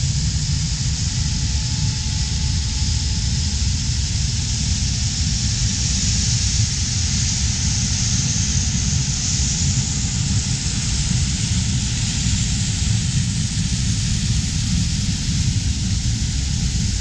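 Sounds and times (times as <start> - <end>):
hiss: 0.0 - 17.0.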